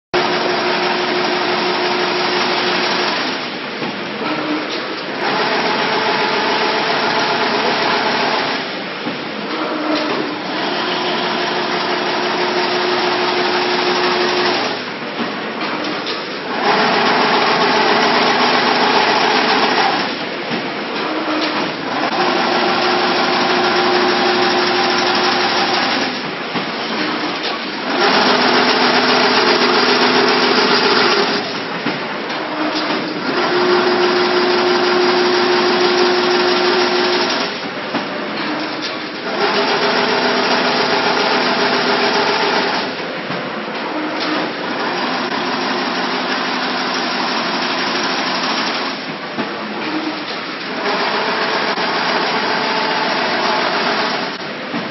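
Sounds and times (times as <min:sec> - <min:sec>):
machine running with steady whine: 0:00.2 - 0:54.9.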